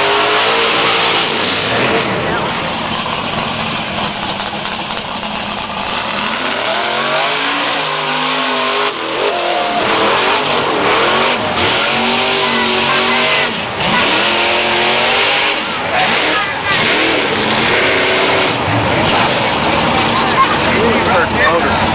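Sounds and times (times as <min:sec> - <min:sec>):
truck engine revving: 0:00.0 - 0:21.9
tyres spinning through mud: 0:00.0 - 0:21.9.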